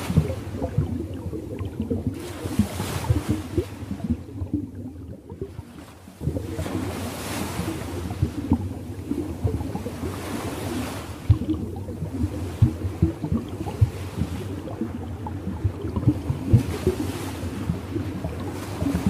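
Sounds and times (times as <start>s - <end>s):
low rumble of water: 0.0s - 19.0s
ocean waves washing: 0.0s - 19.0s.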